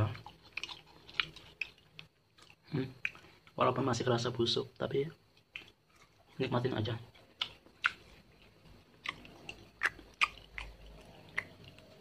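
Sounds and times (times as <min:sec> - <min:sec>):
crunchy food being chewed: 0:00.0 - 0:12.0.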